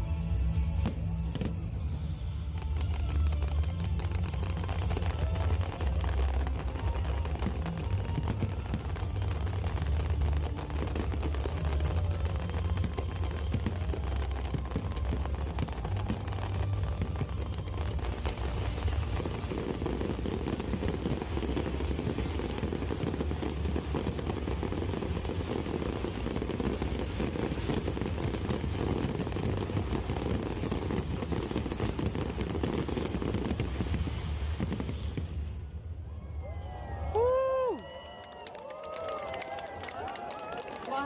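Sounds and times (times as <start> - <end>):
fireworks bangs and crackles: 0.5 - 41.0.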